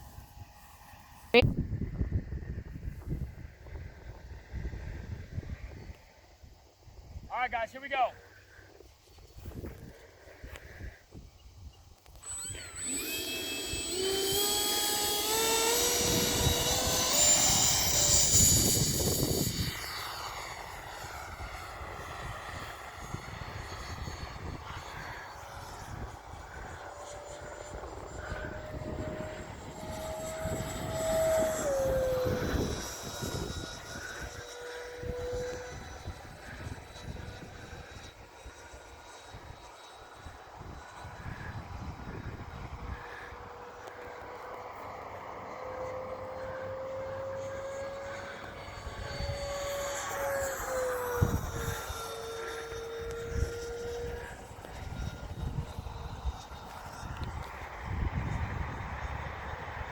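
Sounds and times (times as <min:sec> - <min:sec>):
electric ducted fan jet whining: 0:00.0 - 0:59.9
wind buffeting microphone: 0:01.3 - 0:07.3, 0:08.8 - 0:44.2, 0:46.8 - 0:59.9.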